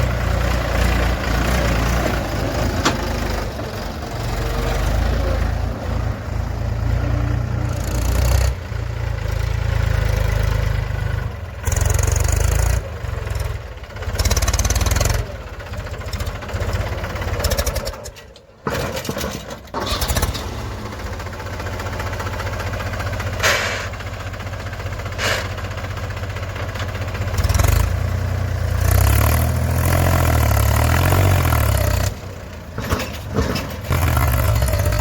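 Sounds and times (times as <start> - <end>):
diesel engine clattering: 0.0 - 35.0.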